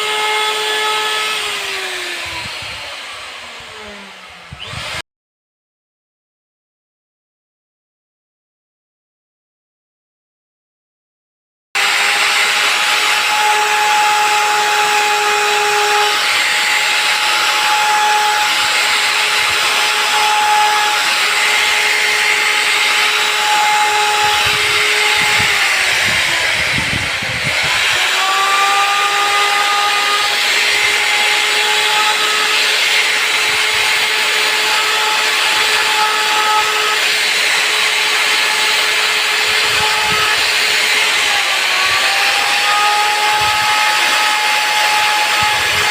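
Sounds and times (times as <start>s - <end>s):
router cutting wood: 0.0s - 5.0s, 11.8s - 45.9s
router spindle whining: 0.0s - 5.0s, 11.8s - 45.9s.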